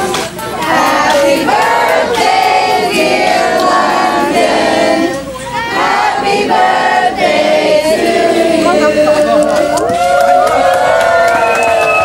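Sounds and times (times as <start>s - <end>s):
crowd singing together: 0.0s - 10.2s.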